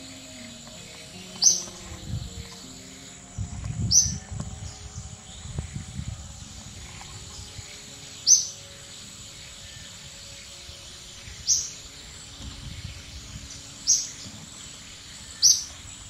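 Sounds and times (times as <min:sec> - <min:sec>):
bird chirping: 0:00.0 - 0:16.0
high-pitched insect drone: 0:00.0 - 0:16.0.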